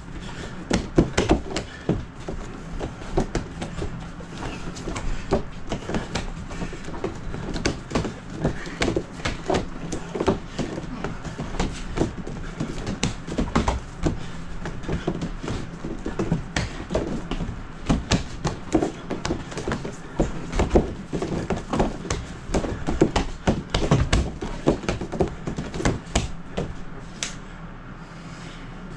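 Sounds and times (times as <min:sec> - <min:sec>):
hands slapping wooden dummy: 0:00.2 - 0:27.4.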